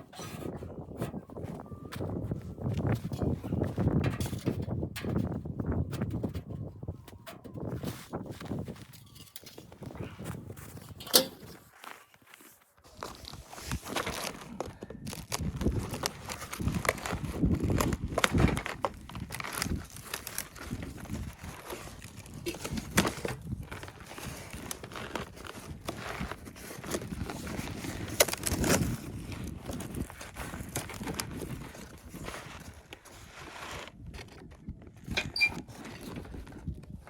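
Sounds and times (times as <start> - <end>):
crunching and rustling: 0.0 - 37.0.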